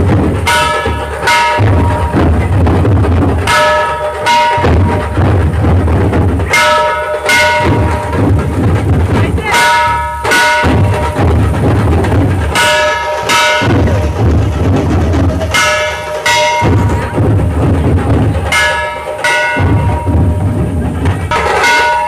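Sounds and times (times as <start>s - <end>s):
drums beating: 0.0s - 22.0s
ringing metal strikes: 0.0s - 22.0s.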